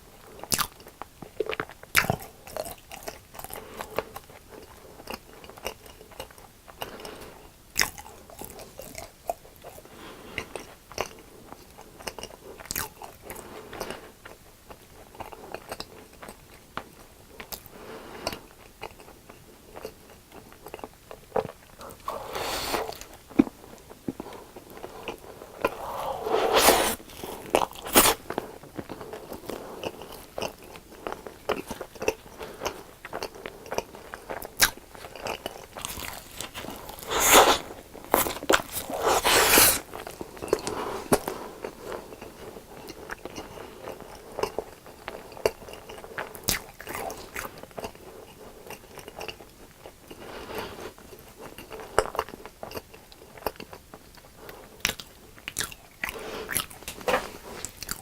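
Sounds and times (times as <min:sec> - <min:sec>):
crunching and chewing crisp food: 0:00.0 - 0:58.0.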